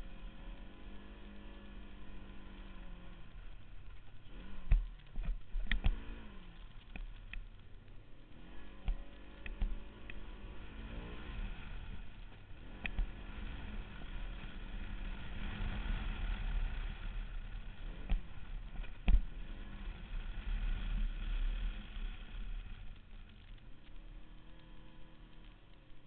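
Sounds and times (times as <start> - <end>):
utility vehicle engine revving: 0.0 - 26.0.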